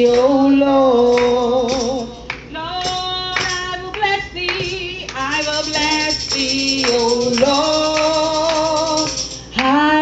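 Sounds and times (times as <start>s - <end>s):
woman singing gospel: 0.0s - 10.0s
hand clapping: 1.2s - 9.8s.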